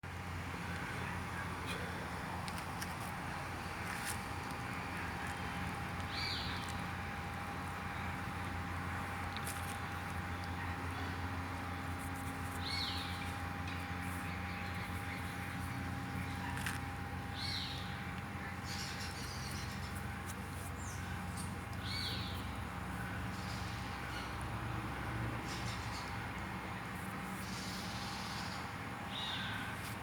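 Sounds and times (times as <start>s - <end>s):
steady low hum: 0.1s - 30.0s.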